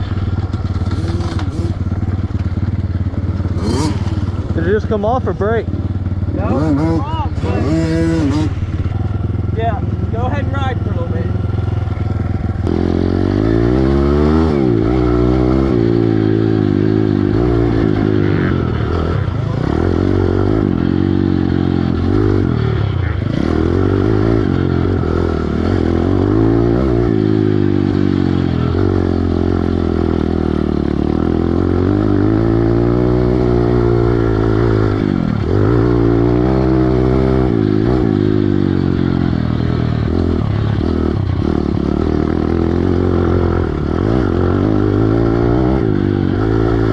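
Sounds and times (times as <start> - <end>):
motorbike engine revving: 0.0 - 46.9.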